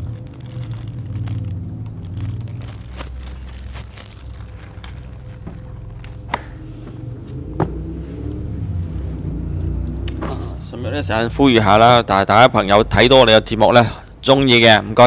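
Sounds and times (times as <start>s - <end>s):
low rumble: 0.0s - 13.5s.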